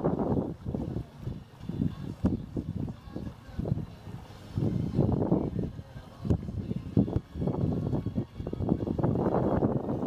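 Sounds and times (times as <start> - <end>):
water washing along hull: 0.0 - 10.0
wind buffeting microphone: 0.0 - 10.0.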